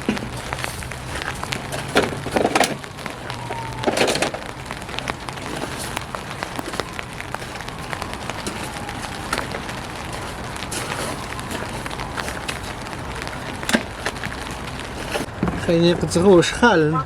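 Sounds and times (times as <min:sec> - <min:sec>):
rain on a tarp: 0:00.0 - 0:16.7.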